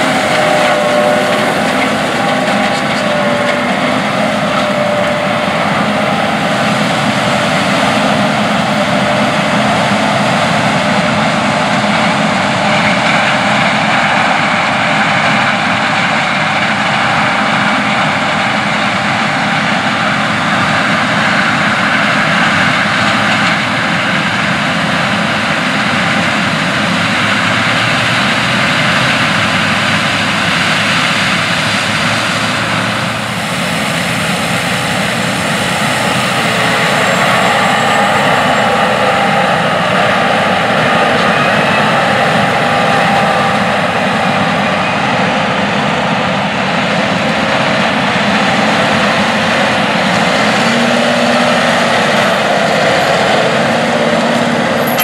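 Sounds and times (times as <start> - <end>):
combine harvester droning: 0.0 - 55.0
steady whine: 0.0 - 55.0
tractor running: 0.0 - 55.0.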